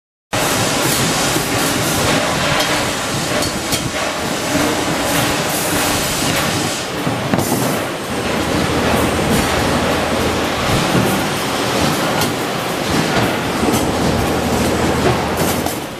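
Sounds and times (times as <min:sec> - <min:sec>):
factory machinery noise: 0:00.3 - 0:15.9.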